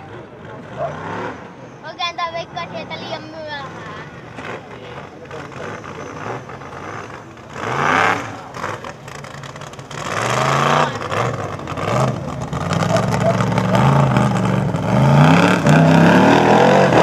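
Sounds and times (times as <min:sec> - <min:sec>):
buggy engine revving hard: 0:00.0 - 0:17.0.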